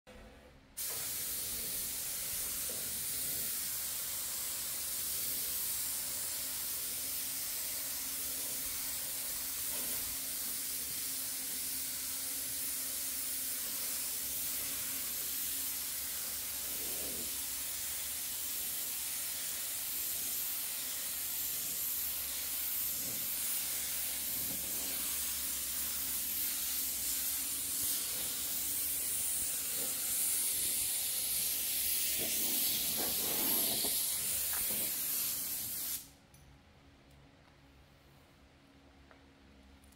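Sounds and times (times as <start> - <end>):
paint spray gun hissing: 0.8 - 36.2.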